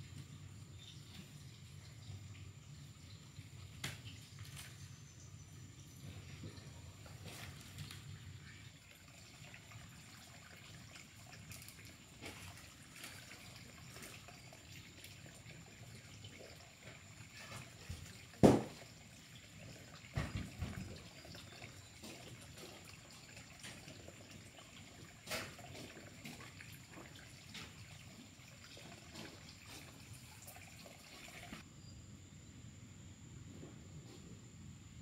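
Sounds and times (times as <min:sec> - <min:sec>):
faint trickling water: 0:00.0 - 0:31.6.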